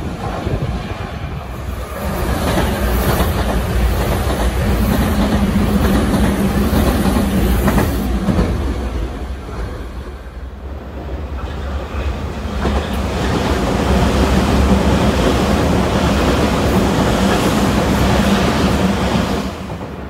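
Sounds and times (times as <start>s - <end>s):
train wheels clattering on rails: 0.0s - 10.2s, 11.3s - 20.0s.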